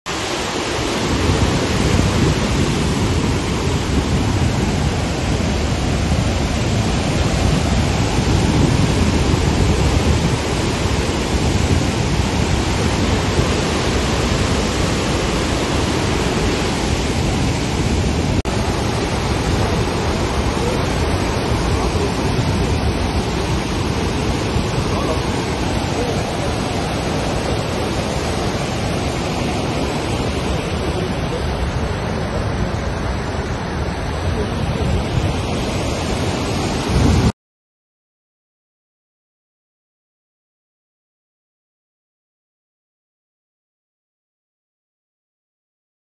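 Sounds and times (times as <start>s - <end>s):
fast-moving water rushing: 0.1s - 37.3s.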